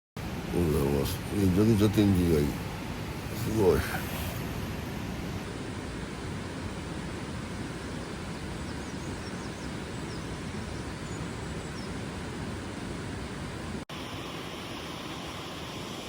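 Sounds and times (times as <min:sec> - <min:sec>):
rushing outdoor background noise: 0:00.2 - 0:16.0.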